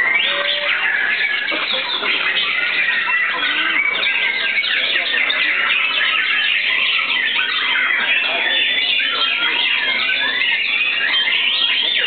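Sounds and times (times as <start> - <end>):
songbirds whistling chorus: 0.0 - 12.0.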